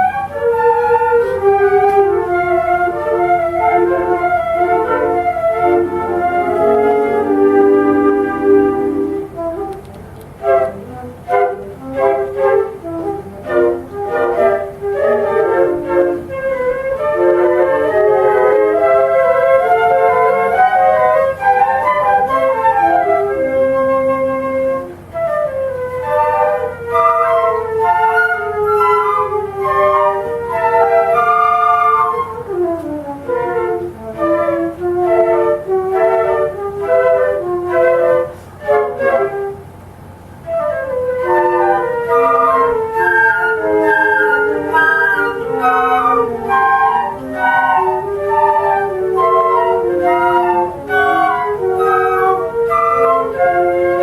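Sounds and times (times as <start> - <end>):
flute ensemble playing: 0.0 - 54.0.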